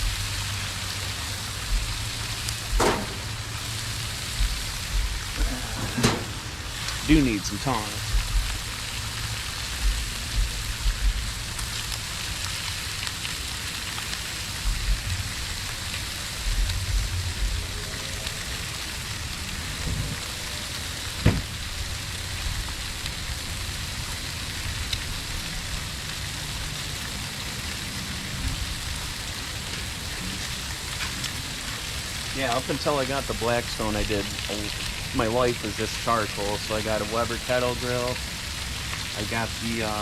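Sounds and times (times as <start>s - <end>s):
bacon sizzling on a griddle: 0.0s - 40.0s.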